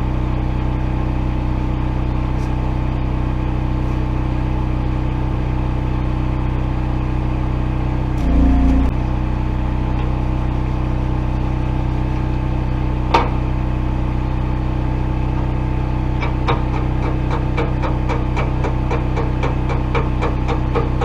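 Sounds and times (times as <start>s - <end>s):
small gasoline engine running: 0.2s - 21.0s.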